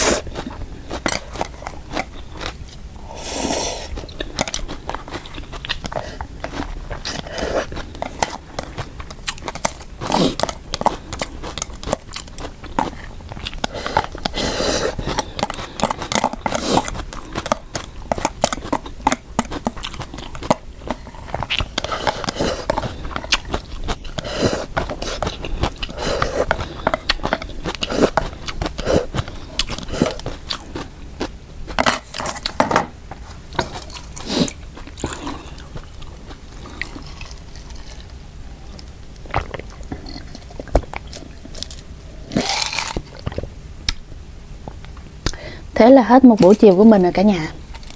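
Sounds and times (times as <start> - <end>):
person chewing and biting: 0.0 - 44.0.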